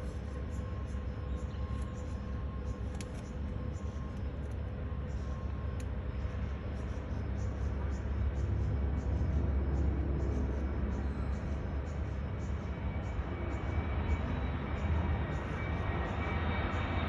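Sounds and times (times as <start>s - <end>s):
faint steady whine: 0.0s - 17.0s
jet engines rumbling: 0.0s - 17.0s.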